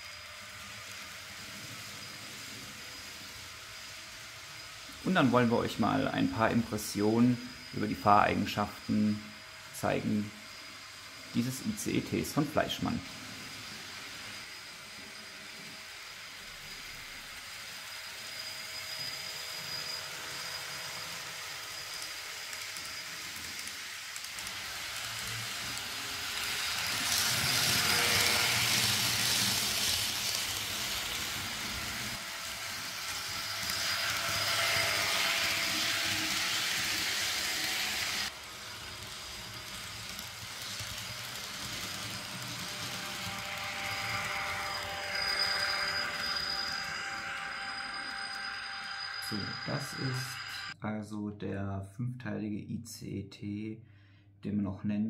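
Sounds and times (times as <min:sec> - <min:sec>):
model train motor and wheels: 0:00.0 - 0:50.8.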